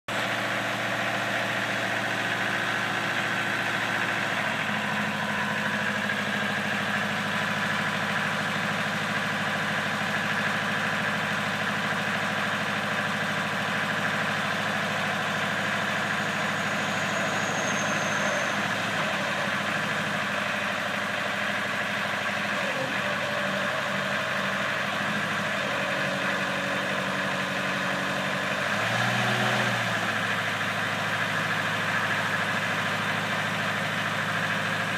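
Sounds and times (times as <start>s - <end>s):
forklift engine idling: 0.1s - 34.9s.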